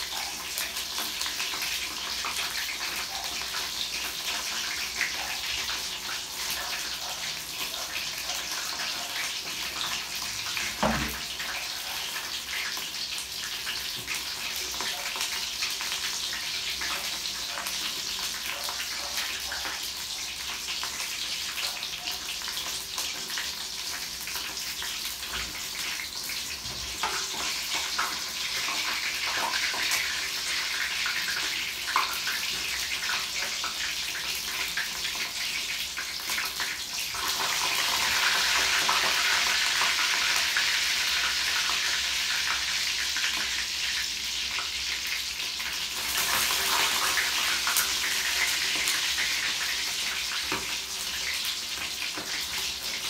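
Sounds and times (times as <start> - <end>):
chicken frying in hot oil: 0.0 - 53.0.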